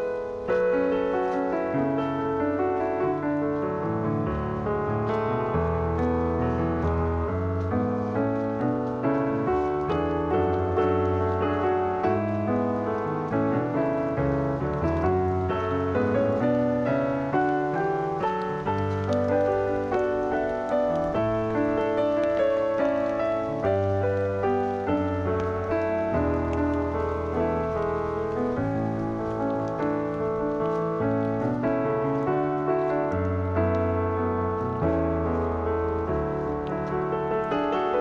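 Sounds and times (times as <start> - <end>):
calm piano music: 0.0 - 38.0.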